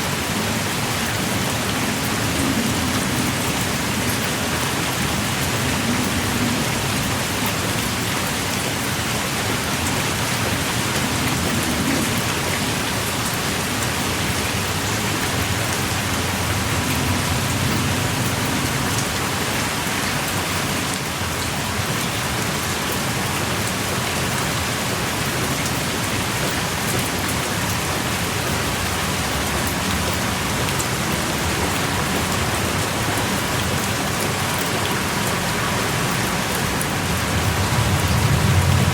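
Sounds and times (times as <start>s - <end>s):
heavy rain on ground and rock: 0.0s - 38.9s.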